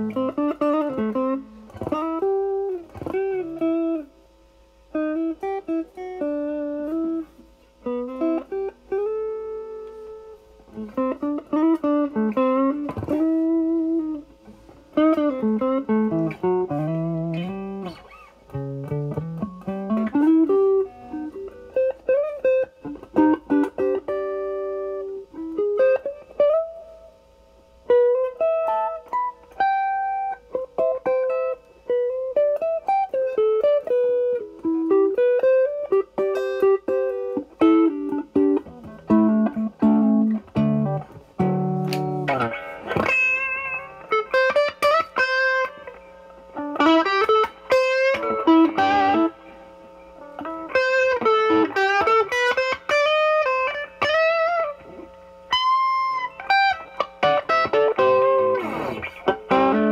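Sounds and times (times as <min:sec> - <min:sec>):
lightly distorted electric guitar: 0:00.0 - 0:59.9.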